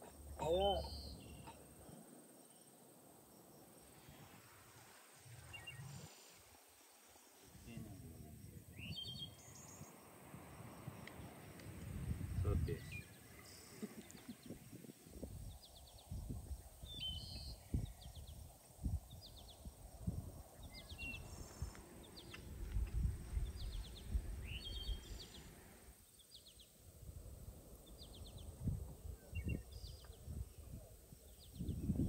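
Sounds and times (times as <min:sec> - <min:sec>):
songbirds trilling: 0:00.0 - 0:26.8, 0:27.6 - 0:32.0.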